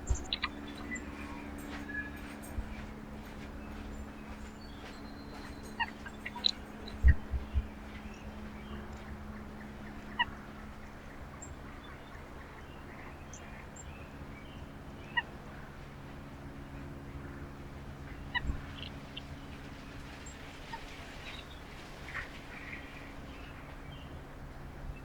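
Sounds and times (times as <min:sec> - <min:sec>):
birds chirping: 0:00.0 - 0:25.0
steady low hum: 0:00.0 - 0:25.0.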